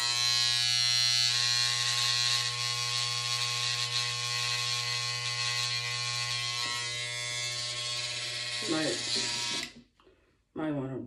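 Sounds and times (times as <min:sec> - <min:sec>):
electric hair trimmer buzzing: 0:00.0 - 0:09.8.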